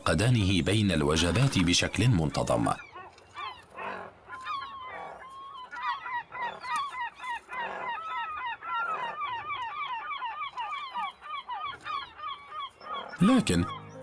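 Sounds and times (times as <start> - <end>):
rasping bird calls: 0.0 - 14.0.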